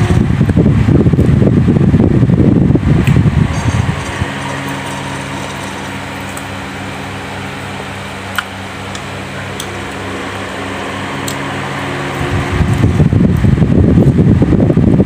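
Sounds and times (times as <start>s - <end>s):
room fan motor hum: 0.0s - 15.0s.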